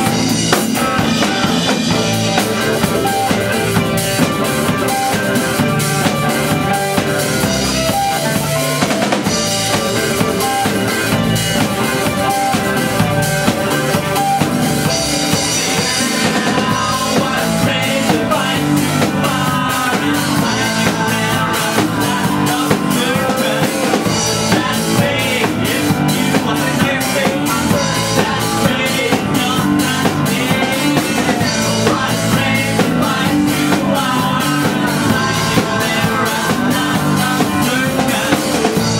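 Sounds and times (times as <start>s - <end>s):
drum kit: 0.0s - 38.9s
electric guitar: 0.0s - 38.9s
man singing: 0.0s - 38.9s.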